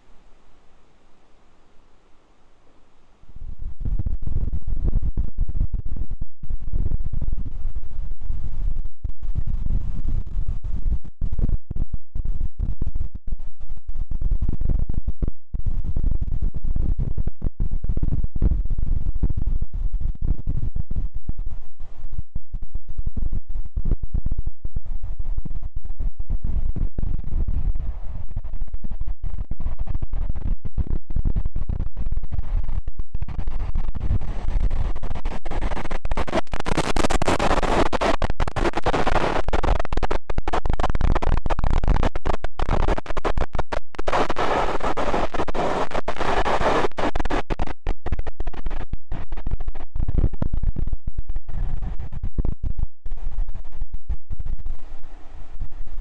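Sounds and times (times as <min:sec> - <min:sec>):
gusty wind buffeting microphone: 0:03.2 - 0:56.0.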